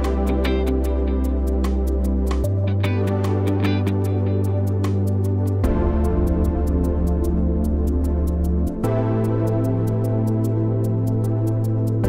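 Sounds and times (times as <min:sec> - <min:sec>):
background music with bass and chords: 0:00.0 - 0:12.0
light ticking percussion: 0:00.0 - 0:12.0.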